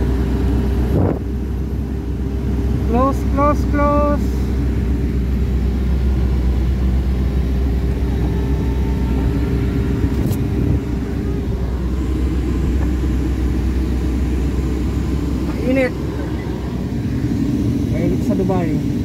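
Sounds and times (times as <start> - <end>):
car engine drone in cabin: 0.0 - 19.0
road noise: 0.0 - 19.0.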